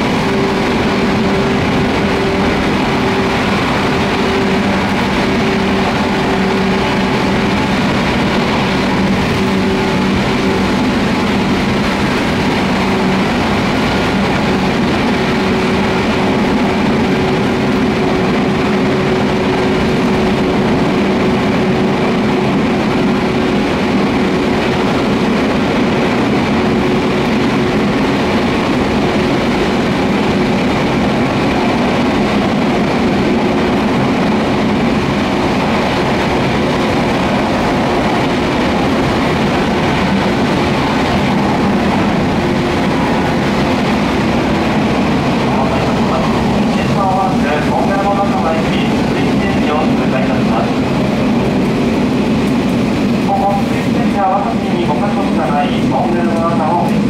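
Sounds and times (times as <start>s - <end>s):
traction motor hum: 0.0s - 53.9s
train wheels rumbling on rail: 0.0s - 57.0s.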